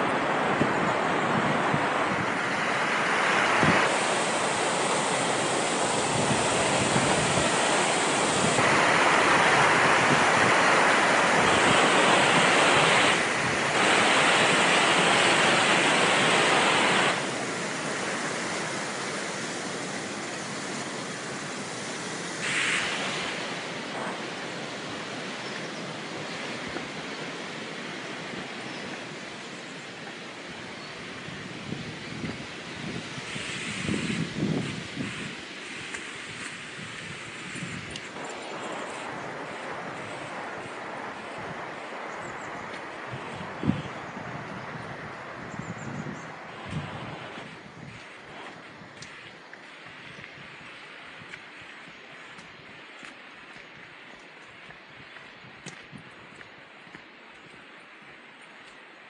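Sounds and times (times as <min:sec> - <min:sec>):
river rushing over rapids: 0:00.0 - 0:59.0.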